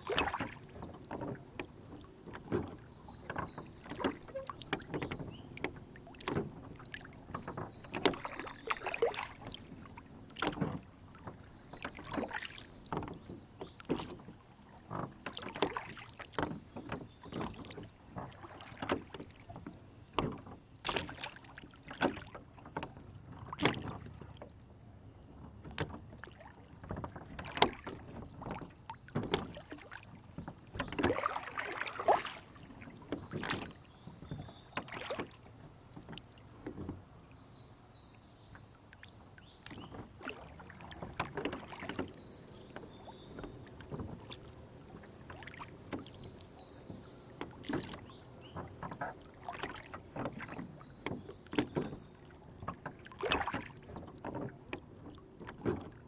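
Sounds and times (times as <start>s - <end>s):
knocks against hull: 0.0s - 24.5s, 25.6s - 37.0s, 39.6s - 44.6s, 45.3s - 56.0s
water lapping against boat: 0.0s - 56.0s.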